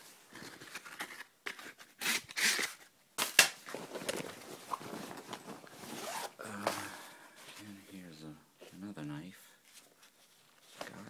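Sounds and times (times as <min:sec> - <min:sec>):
rustling: 0:00.0 - 0:09.0.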